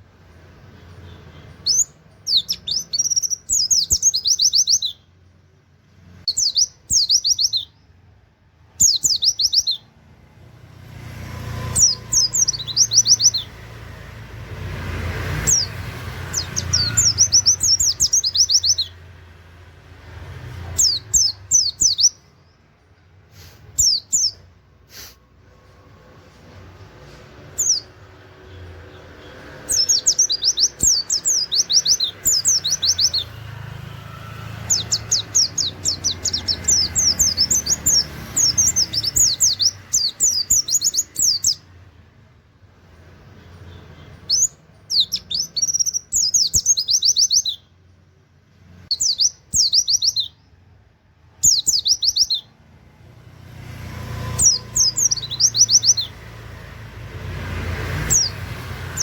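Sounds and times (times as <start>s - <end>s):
bird singing rapid chirps: 0.0s - 22.8s, 23.4s - 24.6s, 26.8s - 42.0s, 43.0s - 47.9s, 48.5s - 59.0s.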